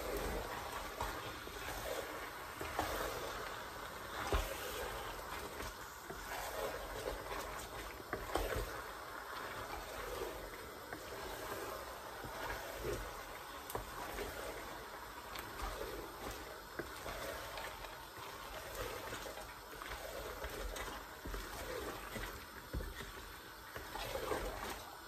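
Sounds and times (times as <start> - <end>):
spoon stirring thick soup: 0.0 - 25.0.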